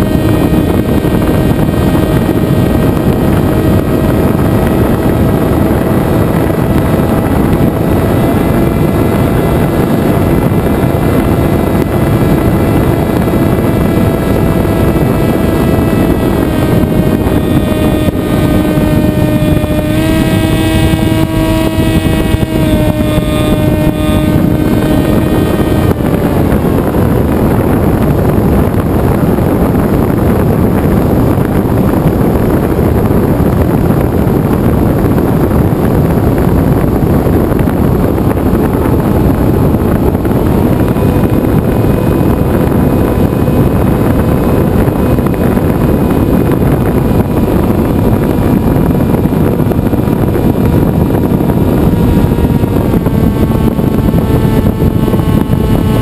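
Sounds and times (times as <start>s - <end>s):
motor and propeller whining: 0.0s - 56.0s
wind rush: 0.0s - 56.0s.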